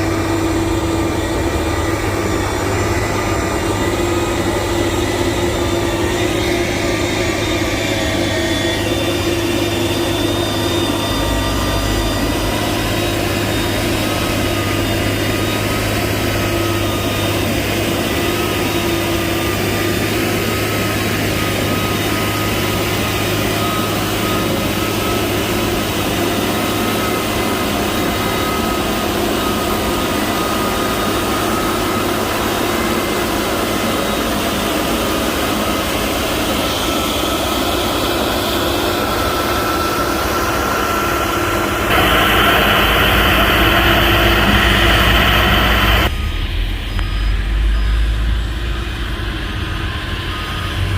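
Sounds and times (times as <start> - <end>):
diesel engine droning: 0.0 - 50.9
high steady whine: 0.0 - 50.9.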